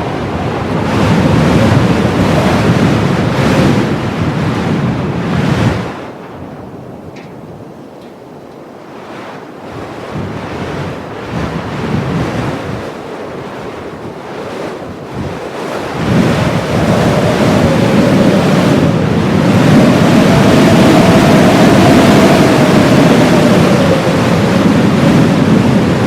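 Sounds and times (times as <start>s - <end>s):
blizzard wind gusting: 0.0s - 26.0s
whistling wind howl: 0.0s - 26.0s.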